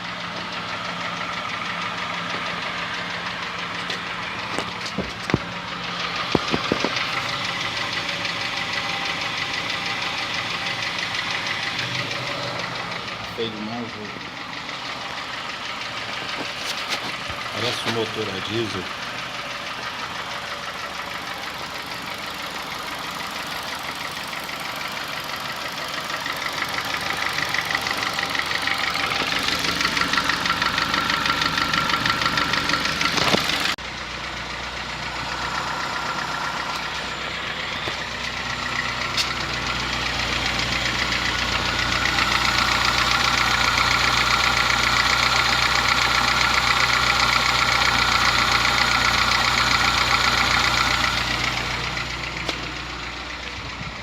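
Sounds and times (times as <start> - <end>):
clattering petrol engine running: 0.0 - 54.0.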